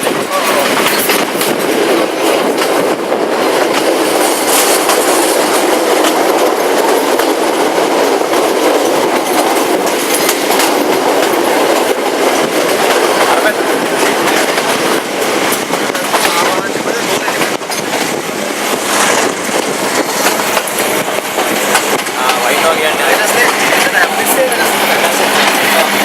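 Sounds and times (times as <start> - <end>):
train carriage rushing noise: 0.0 - 26.0
wheels clicking on track: 0.0 - 26.0.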